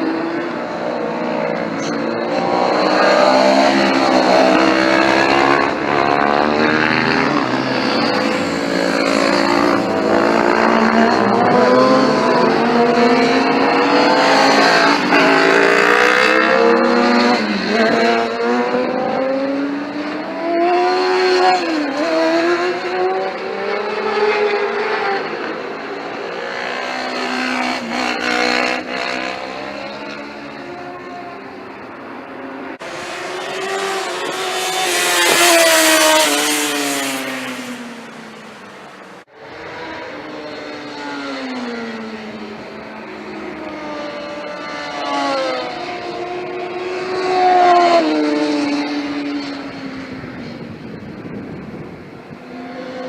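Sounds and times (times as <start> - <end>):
motorcycles revving past: 0.0 - 53.0.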